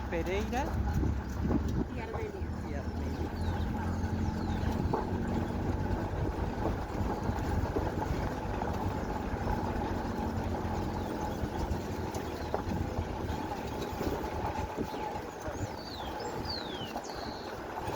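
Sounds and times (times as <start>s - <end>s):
low engine rumble: 0.0s - 17.9s.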